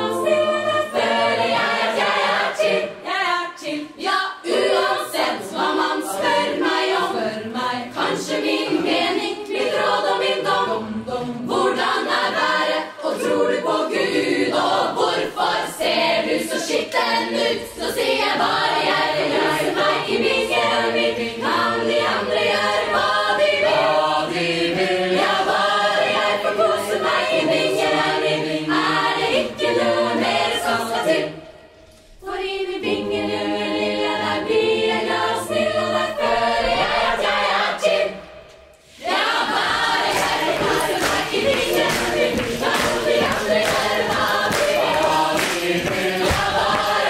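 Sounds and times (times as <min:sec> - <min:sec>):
women's choir singing a cappella: 0:00.0 - 0:47.0.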